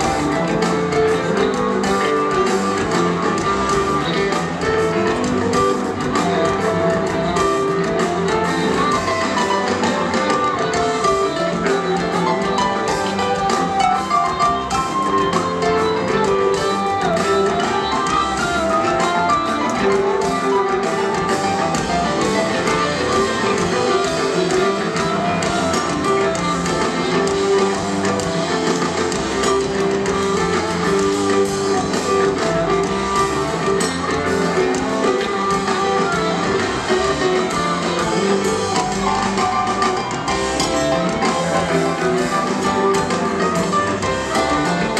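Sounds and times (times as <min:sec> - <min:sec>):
drums and percussion: 0:00.0 - 0:44.9
live rock band playing: 0:00.0 - 0:44.9.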